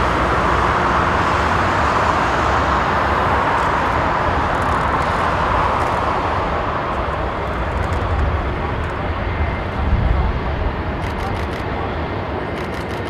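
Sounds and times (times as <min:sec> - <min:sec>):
jet engines taxiing: 0:00.0 - 0:13.0.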